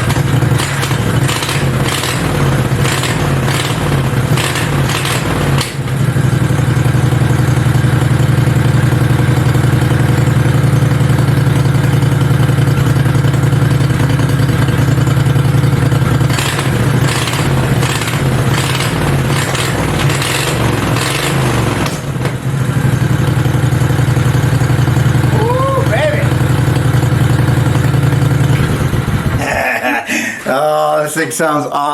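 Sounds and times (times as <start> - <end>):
mini bike engine running: 0.0 - 30.0.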